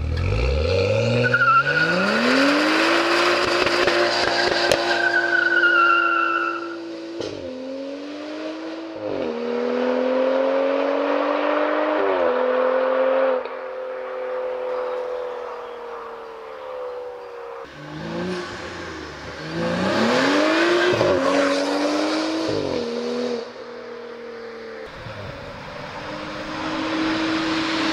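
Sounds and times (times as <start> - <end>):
car engine revving: 0.0 - 27.9
car upshifting and pulling away: 0.0 - 27.9.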